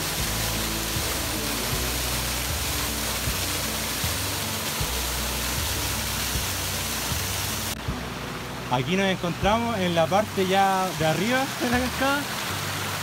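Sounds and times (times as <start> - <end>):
slow pulsing background music: 0.0 - 13.0
waterfall rushing over rocks: 0.0 - 13.0.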